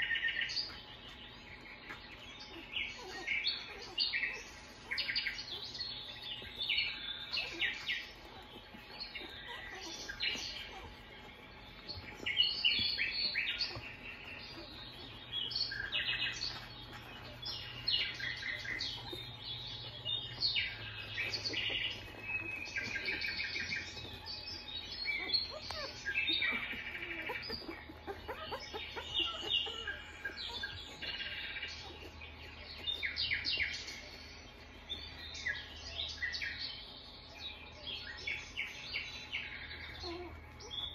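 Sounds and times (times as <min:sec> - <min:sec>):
puppies squeaking and squealing: 0:00.0 - 0:40.9.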